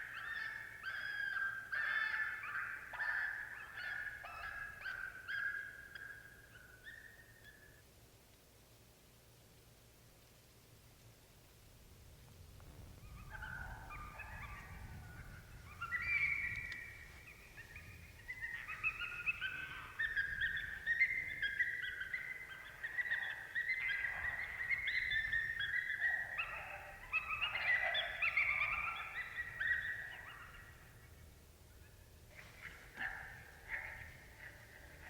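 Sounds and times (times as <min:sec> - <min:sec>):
coyotes yipping and howling: 0:00.0 - 0:07.9, 0:12.6 - 0:35.0.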